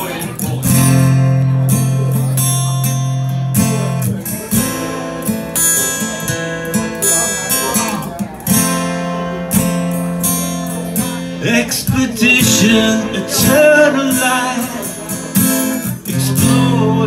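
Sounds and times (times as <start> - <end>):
guitar strummed: 0.0 - 17.0.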